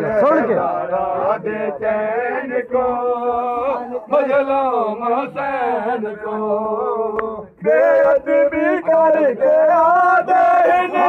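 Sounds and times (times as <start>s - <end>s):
man chanting a lament: 0.0s - 11.0s.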